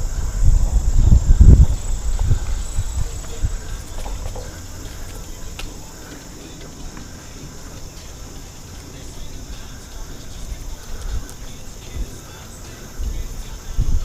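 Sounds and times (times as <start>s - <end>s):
insects droning: 0.0s - 14.0s
wind buffeting microphone: 0.0s - 14.0s.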